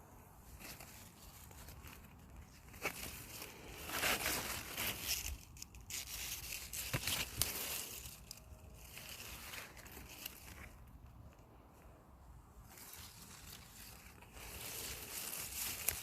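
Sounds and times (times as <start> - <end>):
rustling and crumpling: 0.4 - 16.0.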